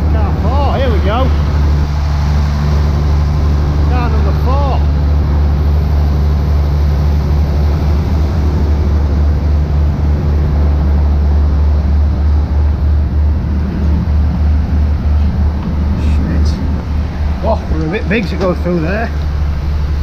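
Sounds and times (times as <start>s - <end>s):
diesel train idling: 0.0s - 20.0s.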